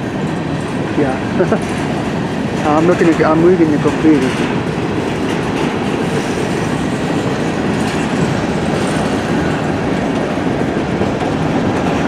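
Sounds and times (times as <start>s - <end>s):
freight train wheels on track: 0.0s - 12.0s.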